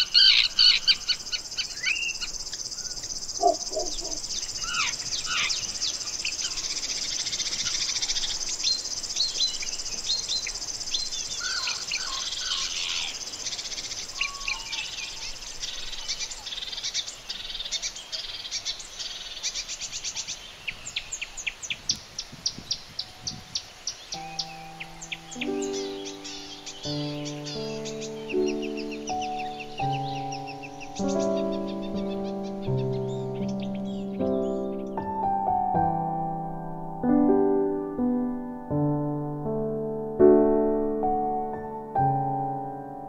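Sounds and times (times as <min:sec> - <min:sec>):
birds singing and calling: 0:00.0 - 0:35.7.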